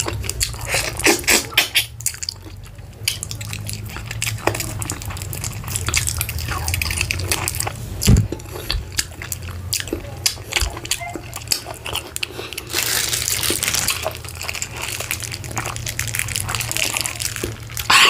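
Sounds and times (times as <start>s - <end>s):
wet chewing and mouth clicks: 0.0s - 18.0s.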